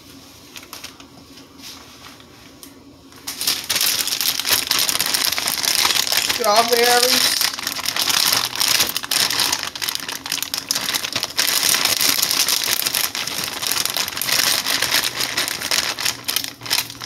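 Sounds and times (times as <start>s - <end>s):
plastic bag crinkling: 3.2s - 17.0s.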